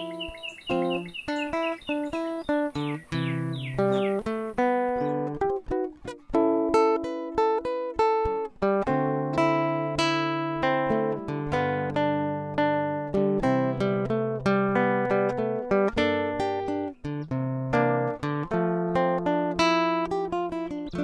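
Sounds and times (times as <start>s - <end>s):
acoustic guitar plucked notes: 0.0s - 21.0s.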